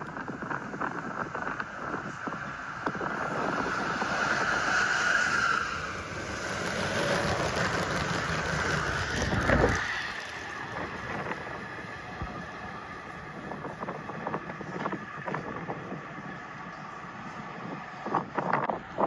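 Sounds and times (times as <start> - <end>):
toy train rolling on track: 0.1 - 18.2.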